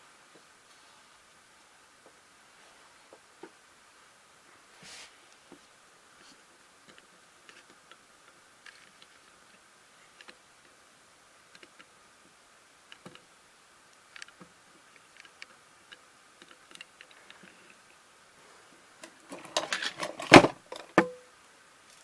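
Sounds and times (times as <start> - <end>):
room hiss: 0.0 - 22.0.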